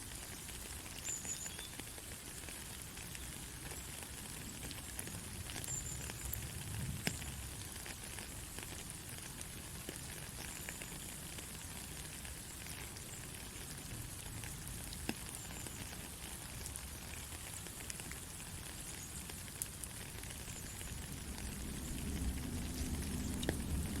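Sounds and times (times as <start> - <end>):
soft rain: 0.0 - 24.0.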